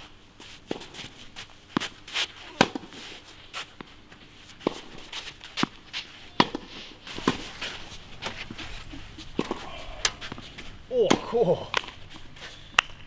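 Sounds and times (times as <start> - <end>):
footsteps on tennis court: 0.0 - 12.9.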